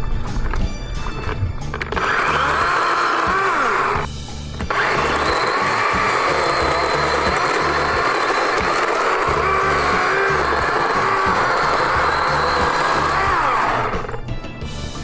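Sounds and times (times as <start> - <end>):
battery chainsaw whining: 1.6 - 14.3.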